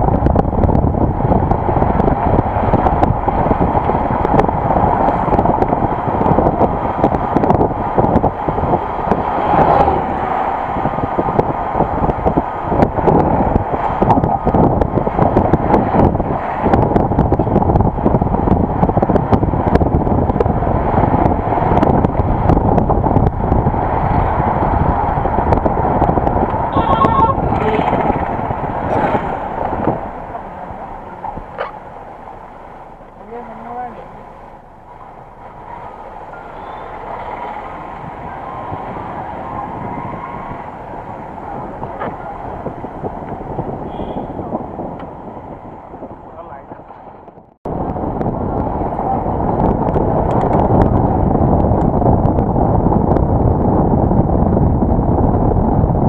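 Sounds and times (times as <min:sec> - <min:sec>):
road and wind noise: 0:00.0 - 0:56.0.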